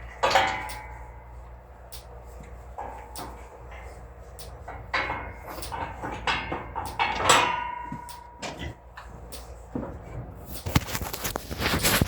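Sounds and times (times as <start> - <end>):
metal clanks and knocks: 0.0 - 1.5, 2.4 - 11.0.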